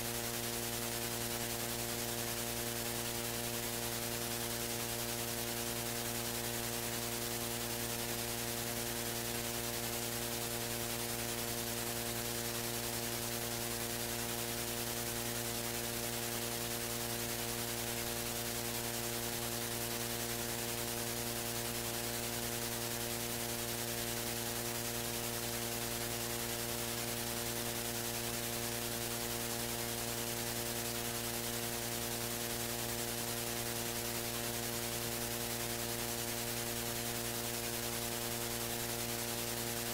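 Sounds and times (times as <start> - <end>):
electrical mains hum and buzz: 0.0 - 39.9.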